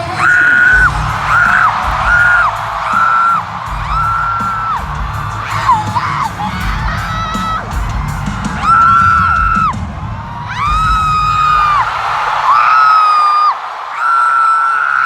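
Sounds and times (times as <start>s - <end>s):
live pop music with heavy bass: 0.0s - 12.9s.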